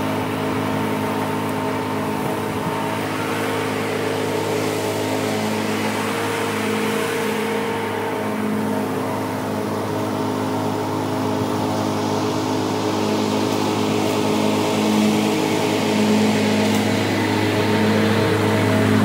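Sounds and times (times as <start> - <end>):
lawn tractor engine running: 0.0 - 19.0.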